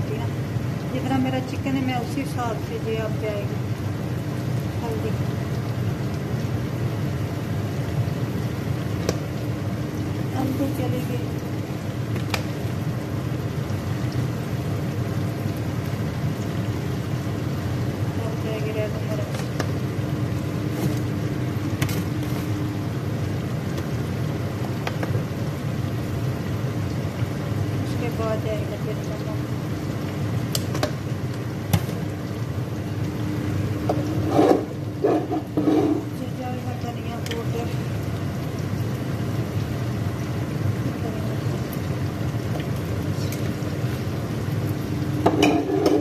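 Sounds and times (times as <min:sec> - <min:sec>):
chicken sizzling in oil: 0:00.0 - 0:46.0
continuous low hum: 0:00.0 - 0:46.0
low rumble of stovetop cooking: 0:00.0 - 0:46.0.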